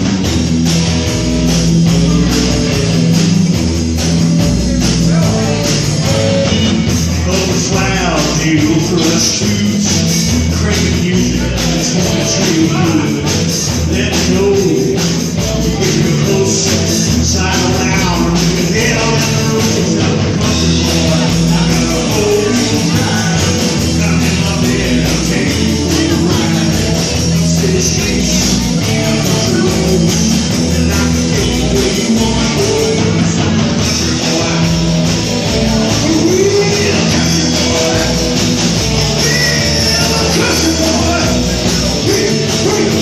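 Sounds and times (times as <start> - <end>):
loud rock band music: 0.0 - 43.0
person singing: 1.3 - 43.0.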